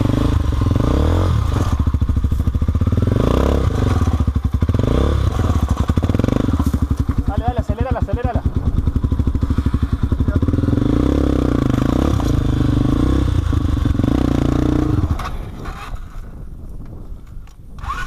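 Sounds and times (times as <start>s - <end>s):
motorcycle engine under heavy throttle: 0.0s - 18.0s.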